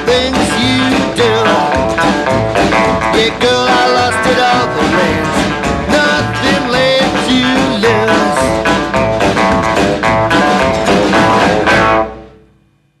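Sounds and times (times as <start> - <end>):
rock and roll band playing: 0.0 - 12.5
electric guitar: 0.0 - 12.6.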